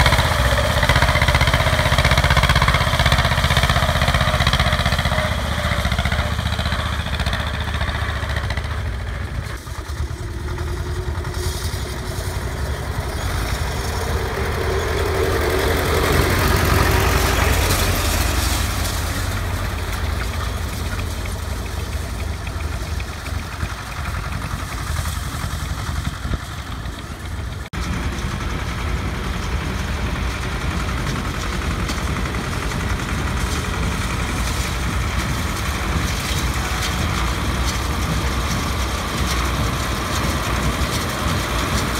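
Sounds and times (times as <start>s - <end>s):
diesel tractor engine running: 0.0s - 41.9s.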